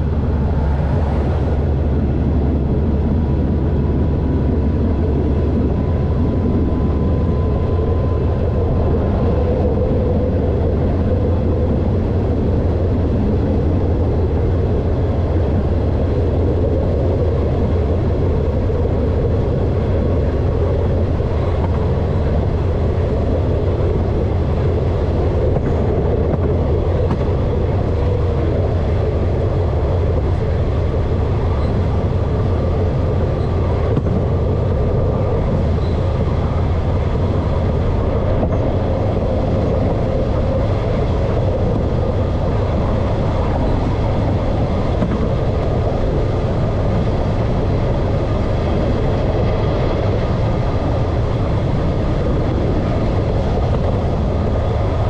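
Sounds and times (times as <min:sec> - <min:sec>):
train engine and wheels rumble: 0:00.0 - 0:55.0.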